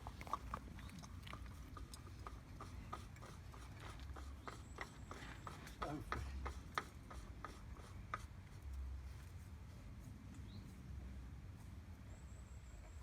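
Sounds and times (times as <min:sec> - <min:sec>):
oil filter rubbing and scraping: 0:00.0 - 0:11.0.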